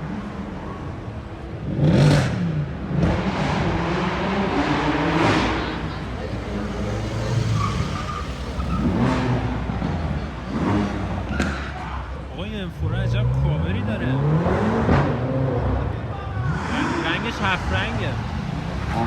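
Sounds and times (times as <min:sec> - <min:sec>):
crowd noise: 0:00.0 - 0:19.0
sports car engines revving: 0:00.0 - 0:19.0.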